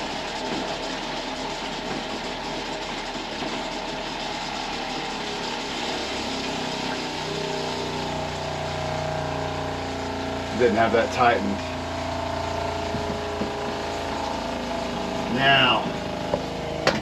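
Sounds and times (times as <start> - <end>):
electric water pump running: 0.0 - 17.0
steady pitched hum: 0.0 - 17.0.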